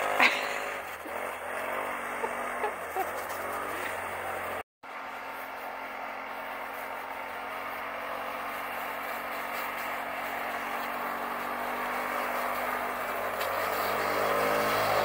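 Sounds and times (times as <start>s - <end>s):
distant small engine running: 0.0s - 15.0s.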